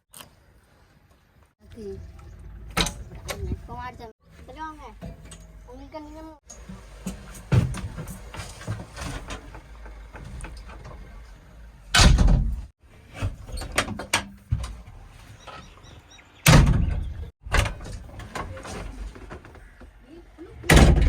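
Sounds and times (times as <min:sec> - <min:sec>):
diesel engine rumbling: 0:01.6 - 0:21.0.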